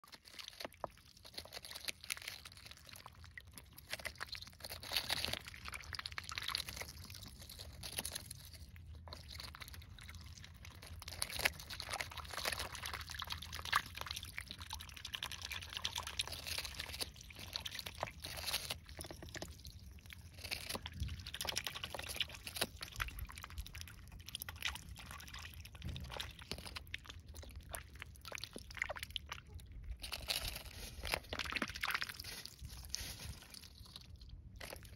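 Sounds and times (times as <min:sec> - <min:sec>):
crunching of cabbage leaf: 0:00.0 - 0:34.9.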